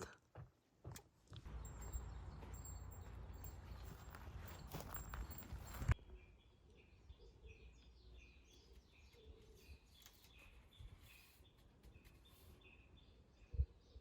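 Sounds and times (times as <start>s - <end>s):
faint bird chirping: 1.5s - 14.0s.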